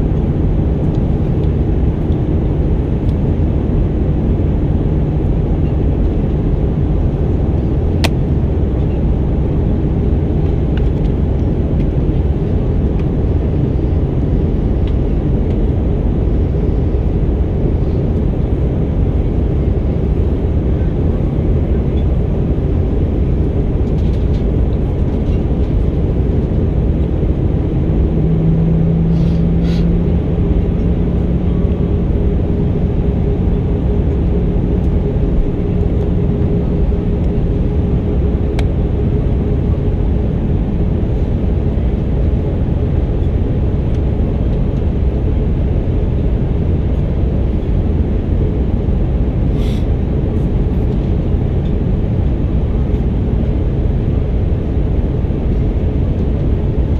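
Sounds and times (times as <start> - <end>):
airplane cabin roar: 0.0 - 56.9
steady low hum: 0.0 - 56.9.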